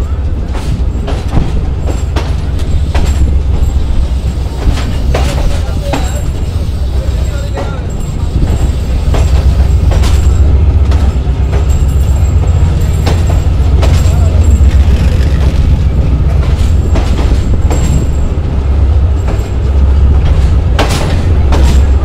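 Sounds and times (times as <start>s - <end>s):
train carriage low rumble: 0.0s - 22.0s
wheels clacking over rail joints: 0.1s - 22.0s.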